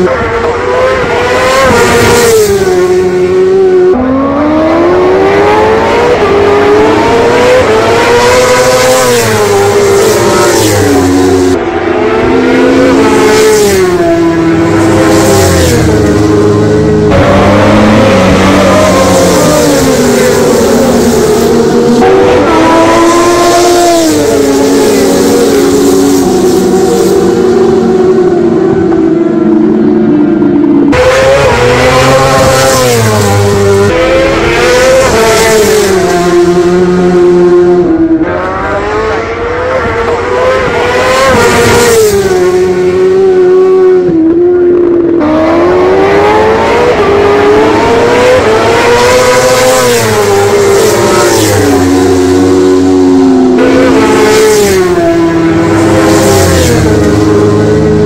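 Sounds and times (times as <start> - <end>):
racing motorcycles at full throttle: 0.0 - 58.0.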